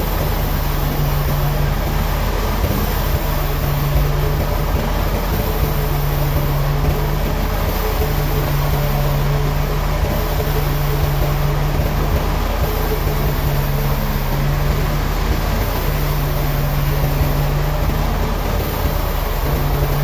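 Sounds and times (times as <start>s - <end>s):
heavy machinery engine hum: 0.0s - 20.0s.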